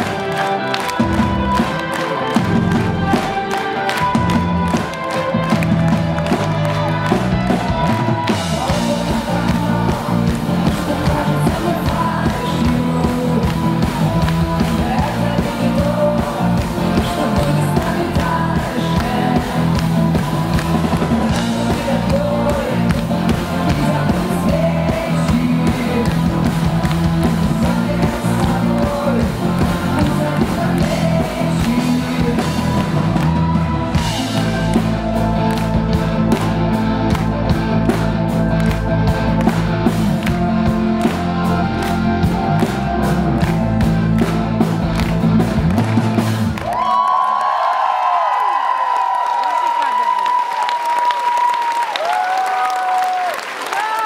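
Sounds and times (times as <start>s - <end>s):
rock band with strings playing: 0.0s - 47.4s.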